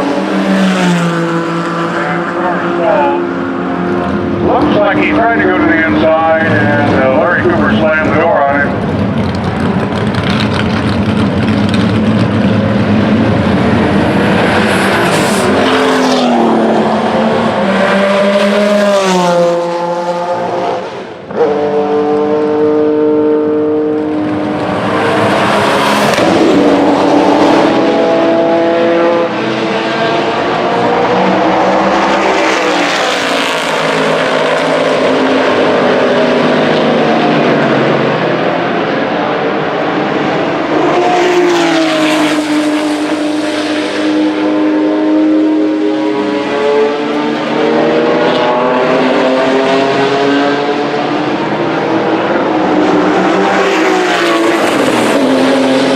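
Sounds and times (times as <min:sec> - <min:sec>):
race cars passing: 0:00.0 - 0:55.9.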